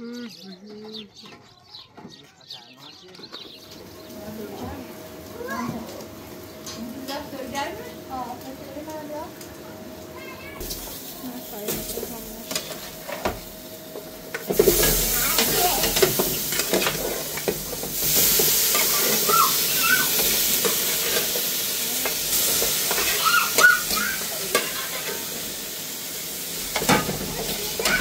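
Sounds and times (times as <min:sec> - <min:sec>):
pot hissing on gas stove: 0:03.7 - 0:28.0.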